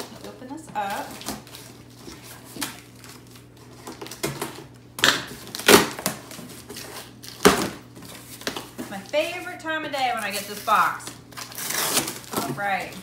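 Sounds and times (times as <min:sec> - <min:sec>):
packing tape ripping: 0:00.9 - 0:08.8, 0:10.2 - 0:13.0.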